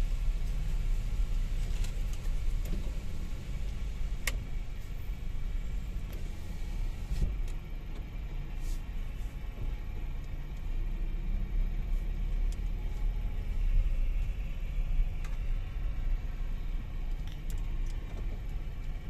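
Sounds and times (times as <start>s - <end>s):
car cabin engine and tyre rumble: 0.0s - 19.0s.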